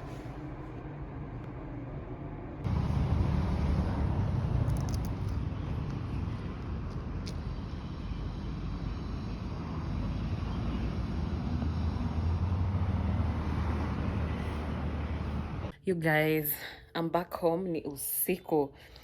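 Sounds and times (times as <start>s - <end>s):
car driving rumble: 0.0s - 15.7s
road traffic: 0.0s - 15.8s.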